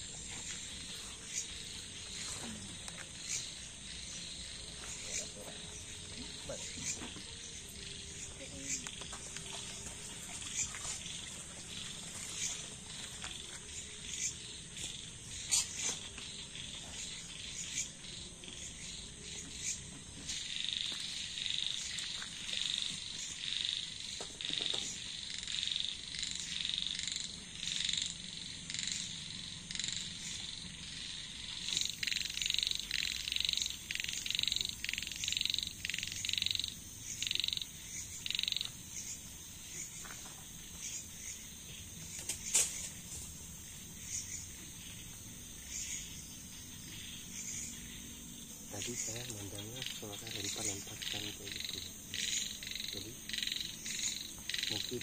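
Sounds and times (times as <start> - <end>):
frog calling: 0.0 - 55.0
insects trilling: 0.0 - 55.0.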